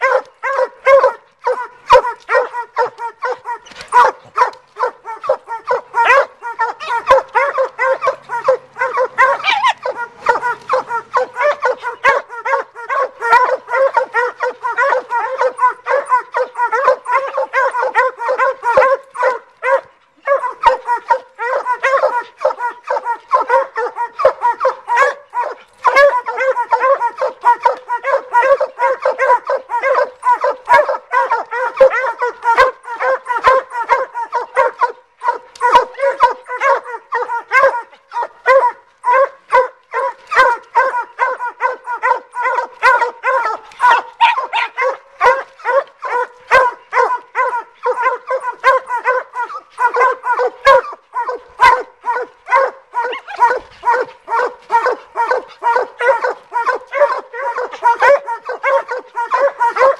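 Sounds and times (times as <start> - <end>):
hounds barking: 0.0 - 59.9.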